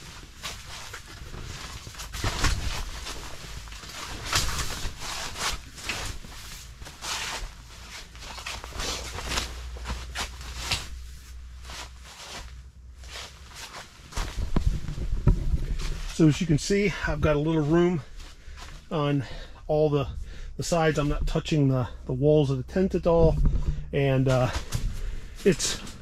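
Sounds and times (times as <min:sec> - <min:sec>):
footsteps on tent floor: 0:00.0 - 0:21.5.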